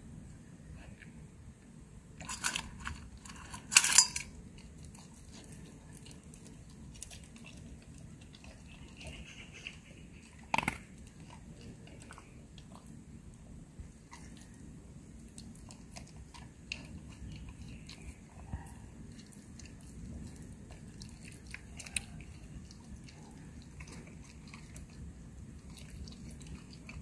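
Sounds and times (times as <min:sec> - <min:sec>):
dog chewing and crunching food: 0:02.2 - 0:27.0.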